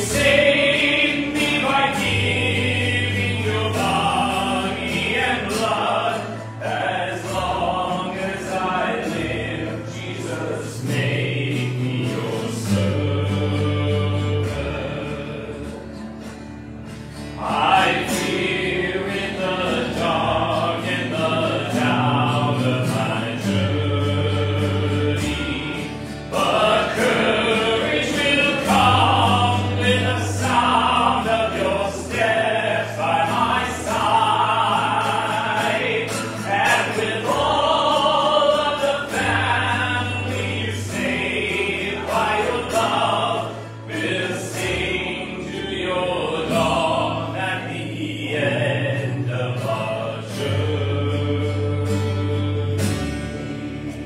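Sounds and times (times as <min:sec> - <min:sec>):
congregation singing a hymn: 0:00.0 - 0:54.0
organ with held bass notes: 0:00.0 - 0:54.0.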